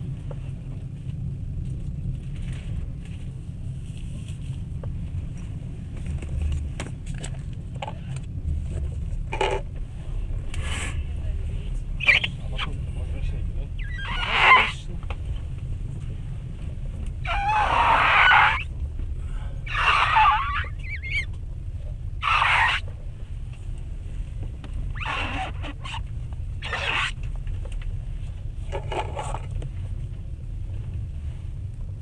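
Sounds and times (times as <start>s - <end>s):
train running rumble: 0.0s - 32.0s.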